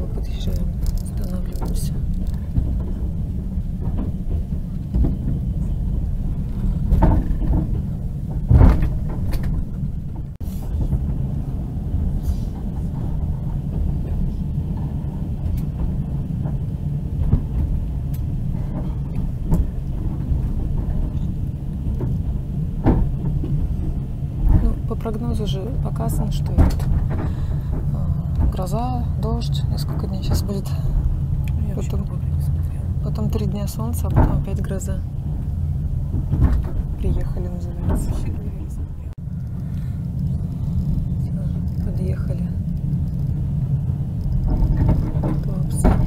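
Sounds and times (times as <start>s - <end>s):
train rumble inside carriage: 0.0s - 46.0s.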